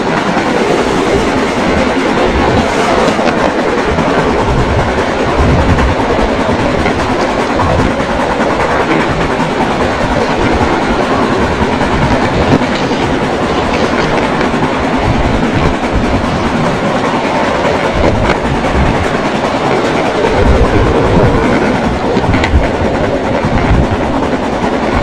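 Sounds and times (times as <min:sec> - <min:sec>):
model train wheels clacking on rails: 0:00.0 - 0:25.0
train rumble on wooden bridge: 0:00.0 - 0:25.0.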